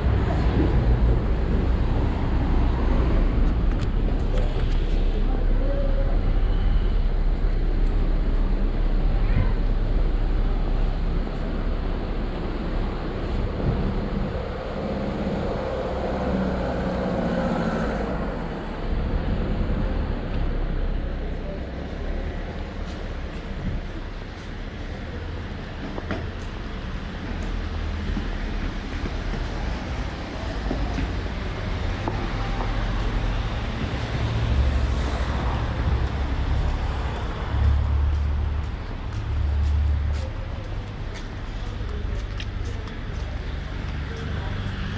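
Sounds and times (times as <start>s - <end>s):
city street traffic: 0.0s - 44.9s.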